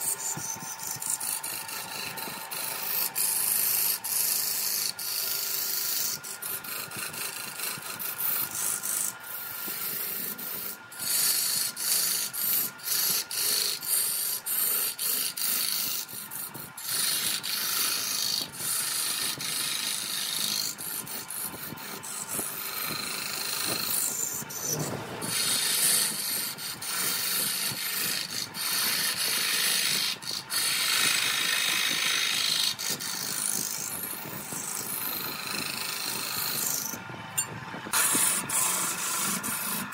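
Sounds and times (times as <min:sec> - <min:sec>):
wood lathe shavings hissing: 0:00.0 - 0:37.0, 0:38.0 - 0:39.9.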